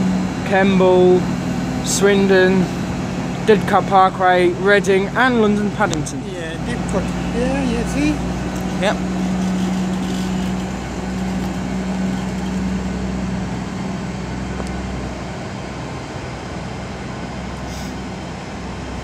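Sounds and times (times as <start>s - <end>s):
train diesel engines running: 0.0s - 19.0s.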